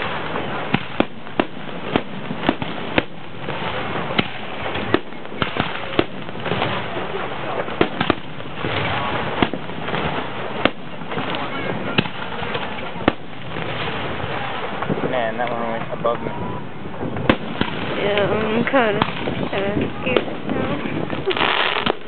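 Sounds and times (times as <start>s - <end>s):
firework shells bursting: 0.0s - 15.6s, 17.1s - 22.0s
steady noisy wash: 0.0s - 22.0s.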